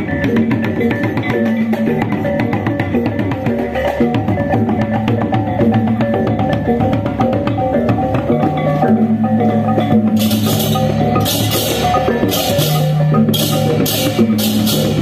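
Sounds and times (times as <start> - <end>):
gamelan metal mallet instruments: 0.0 - 15.0.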